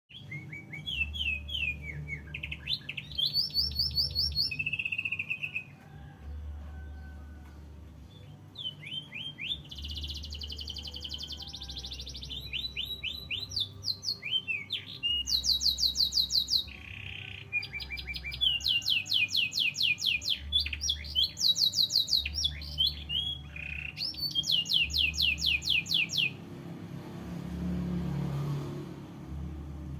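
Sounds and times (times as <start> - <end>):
canary singing trills: 0.1 - 6.0, 8.0 - 26.4.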